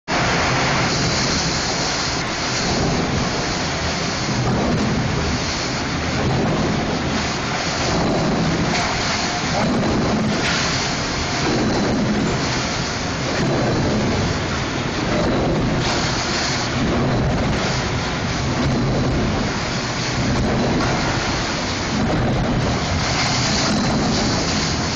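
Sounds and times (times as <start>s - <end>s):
forklift: 0.1s - 24.9s.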